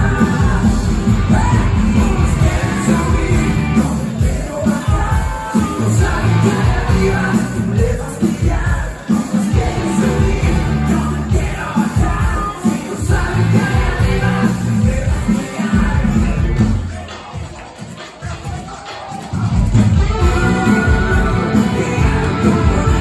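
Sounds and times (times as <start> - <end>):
live pop-rock band: 0.0 - 23.0
person singing: 0.0 - 23.0.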